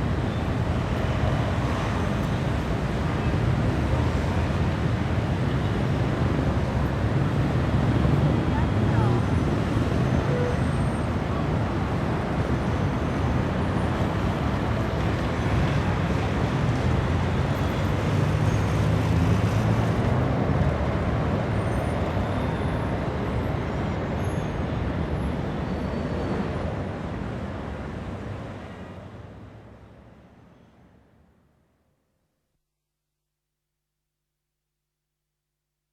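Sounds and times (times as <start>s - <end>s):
city road traffic: 0.0s - 31.9s.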